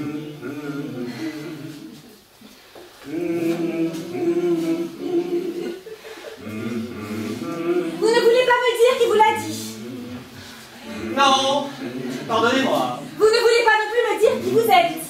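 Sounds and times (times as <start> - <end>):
group singing a cappella: 0.0 - 2.4, 3.0 - 15.0.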